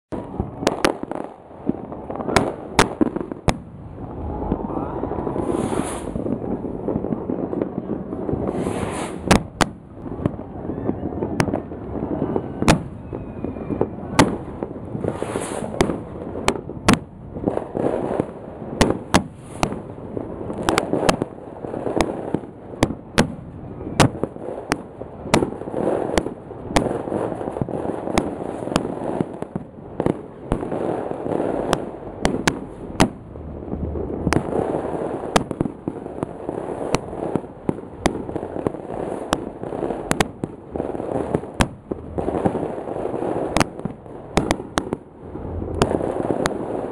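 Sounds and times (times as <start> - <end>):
distant fireworks crackling: 0.1 - 46.9
firework bangs: 0.1 - 46.9.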